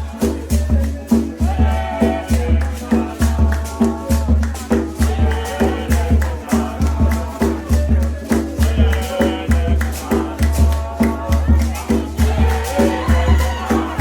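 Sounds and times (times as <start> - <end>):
shaker rattle: 0.0 - 14.0.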